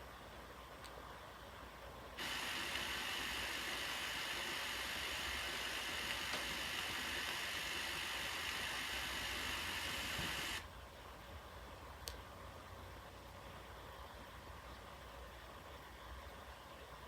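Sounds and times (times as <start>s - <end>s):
tape playback hiss: 0.0s - 17.0s.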